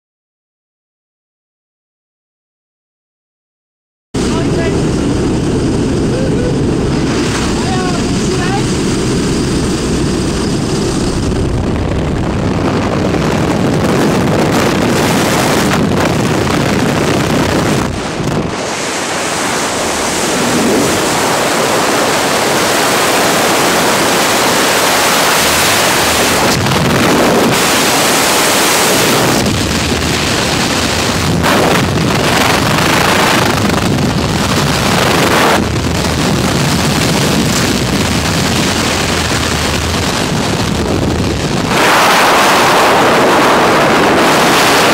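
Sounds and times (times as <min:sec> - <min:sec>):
wind buffeting microphone: 0:04.2 - 0:44.9.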